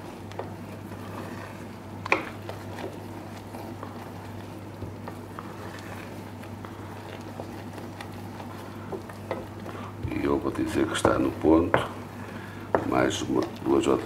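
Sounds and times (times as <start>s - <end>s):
stirring: 0.0s - 14.0s
syrup bubbling in a pot: 0.0s - 14.0s.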